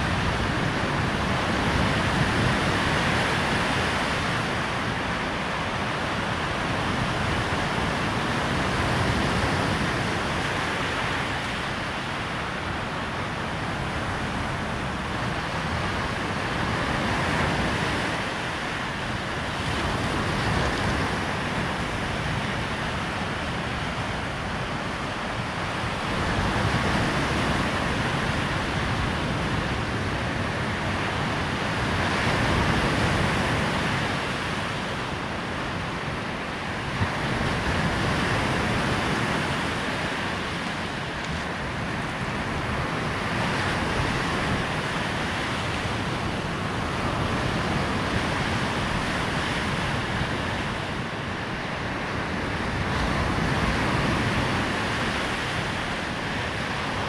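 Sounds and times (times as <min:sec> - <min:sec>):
surf breaking on sand beach: 0:00.0 - 0:57.0
wind: 0:00.0 - 0:57.0.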